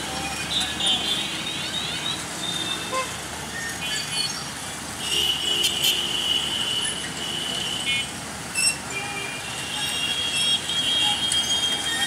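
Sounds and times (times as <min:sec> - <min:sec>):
vehicles crossing railway tracks: 0:00.0 - 0:12.0.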